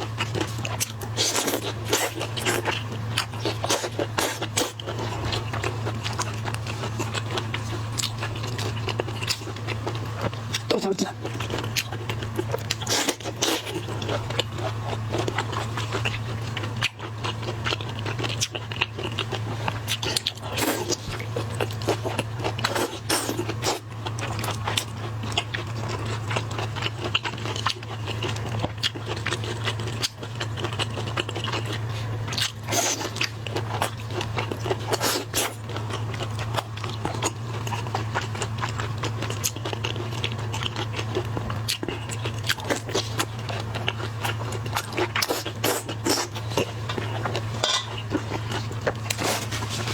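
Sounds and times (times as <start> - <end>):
crunching and chewing seafood: 0.0 - 49.9
steady low hum: 0.0 - 49.9.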